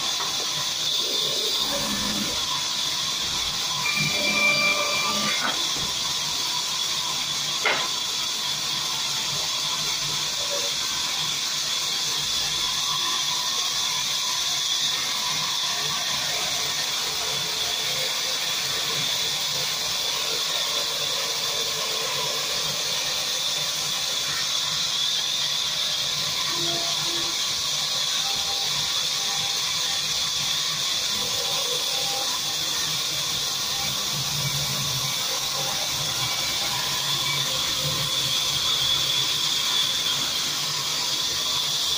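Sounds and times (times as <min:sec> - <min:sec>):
band saw cutting timber: 0:00.0 - 0:41.9.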